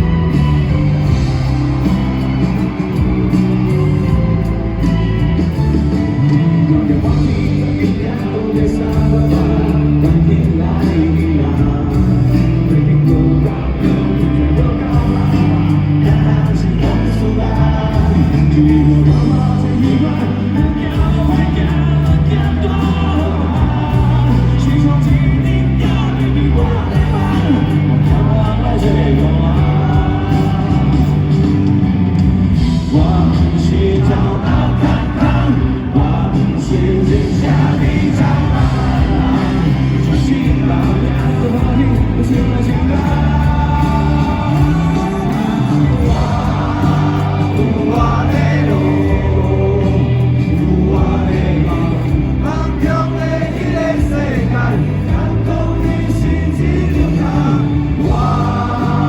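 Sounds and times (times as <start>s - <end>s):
lead singer singing: 0.0s - 59.0s
rock band playing live: 0.0s - 59.0s.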